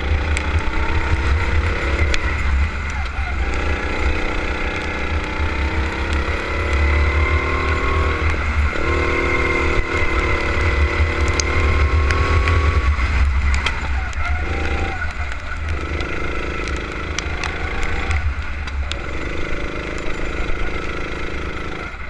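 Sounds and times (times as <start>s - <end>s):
deep rumble: 0.0s - 22.0s
kart engine under throttle: 0.0s - 22.0s.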